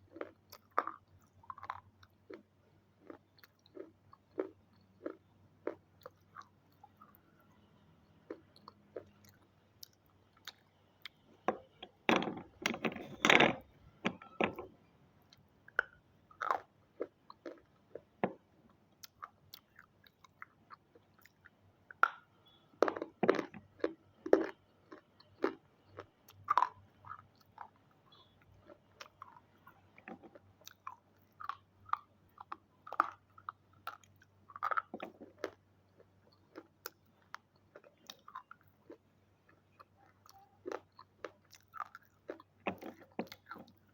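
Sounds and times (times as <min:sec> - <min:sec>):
crunchy food chewing: 0:00.0 - 0:12.0, 0:15.3 - 0:43.9.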